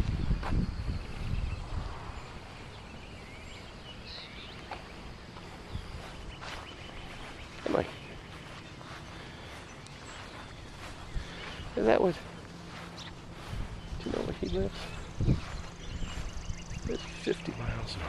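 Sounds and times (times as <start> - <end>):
faint bird chirps: 0.5 - 18.0.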